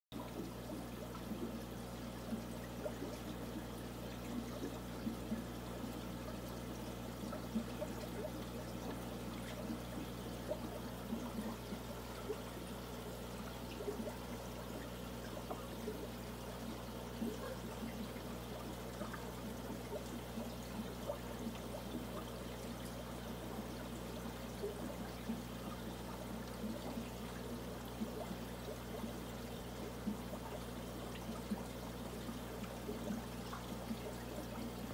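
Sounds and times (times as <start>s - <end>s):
filter low hum: 0.1s - 34.9s
water trickling and bubbling: 0.2s - 34.9s.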